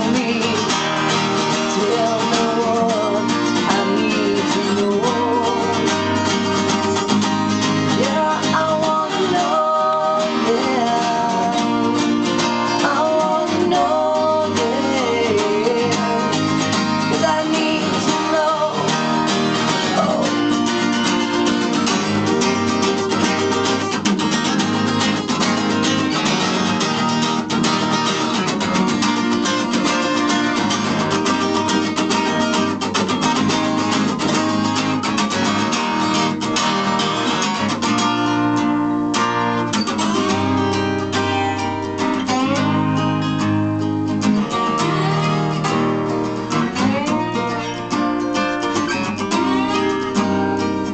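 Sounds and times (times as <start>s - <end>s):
acoustic guitars playing: 0.0s - 50.9s.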